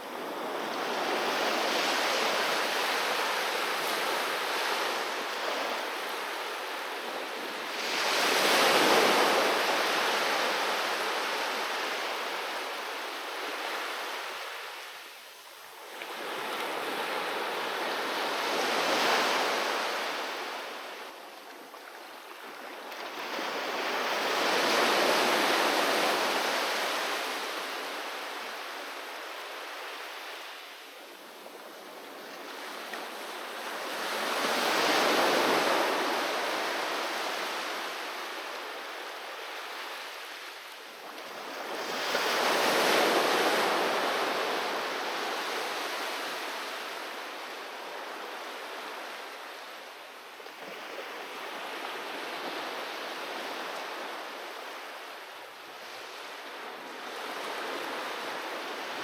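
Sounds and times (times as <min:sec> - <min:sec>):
sea waves breaking on a beach: 0:00.0 - 0:59.0.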